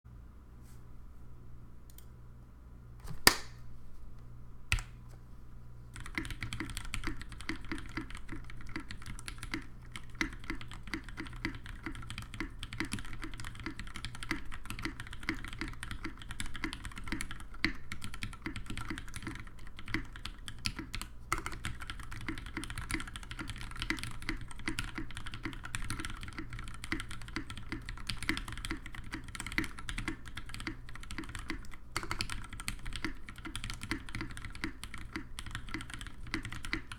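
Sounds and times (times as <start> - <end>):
fast mechanical keyboard typing: 6.0 - 36.9.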